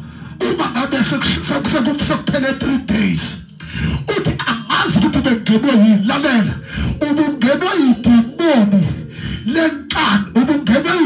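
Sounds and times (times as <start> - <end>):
man preaching over loudspeaker: 0.1 - 11.0.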